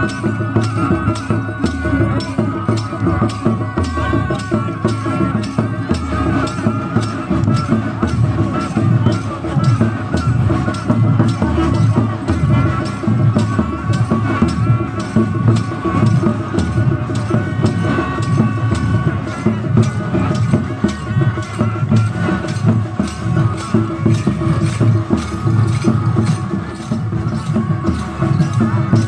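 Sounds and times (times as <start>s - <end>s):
fast folk drumming: 0.0s - 29.0s
held melodic line: 0.0s - 29.0s.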